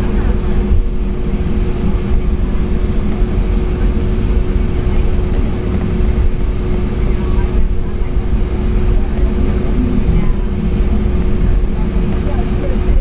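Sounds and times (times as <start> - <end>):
jet engines heard from cabin: 0.0 - 13.0.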